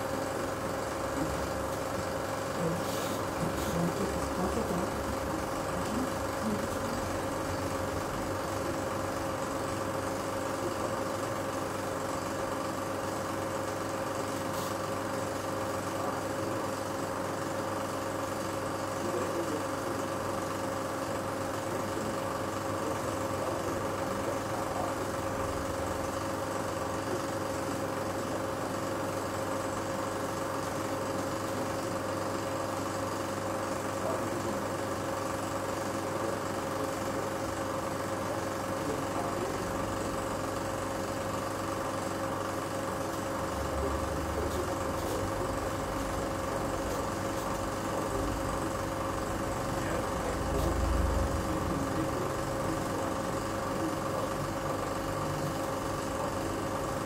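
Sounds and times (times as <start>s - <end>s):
film projector humming: 0.0s - 57.0s.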